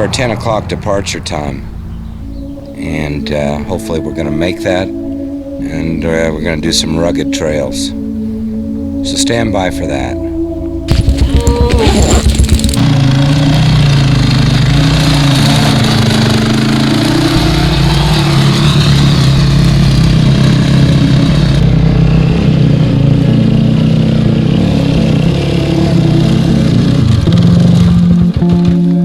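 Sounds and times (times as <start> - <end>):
dirt bike engine running: 0.0 - 6.6, 10.0 - 29.0.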